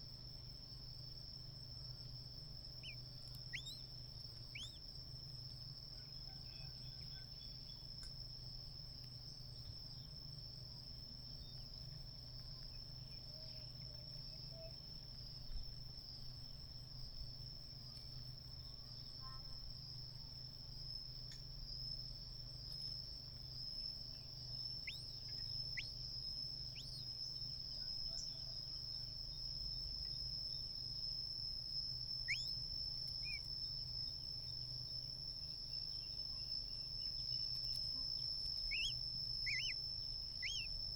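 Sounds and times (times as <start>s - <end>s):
high-pitched insect trill: 0.0s - 40.9s.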